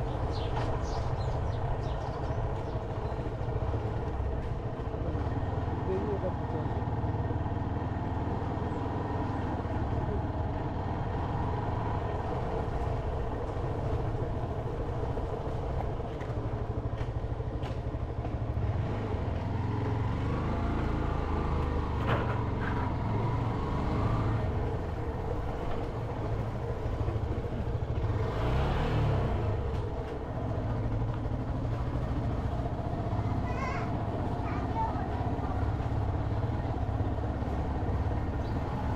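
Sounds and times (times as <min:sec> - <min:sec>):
road and wind noise: 0:00.0 - 0:38.9
motorcycle engine running: 0:00.1 - 0:38.9.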